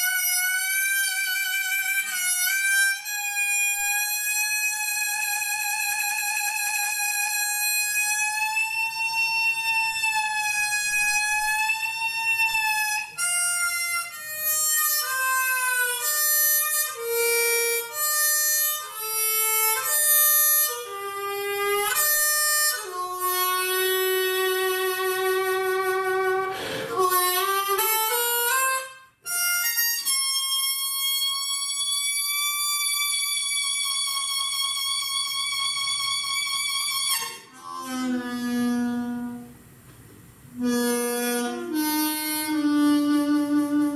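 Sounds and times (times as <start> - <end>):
slow melodic instrument lament: 0.0 - 39.6, 40.6 - 43.9.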